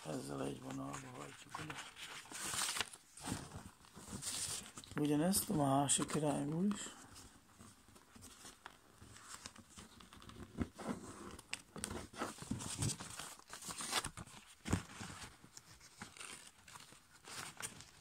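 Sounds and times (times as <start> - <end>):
paper crinkling and rustling: 0.0 - 18.0.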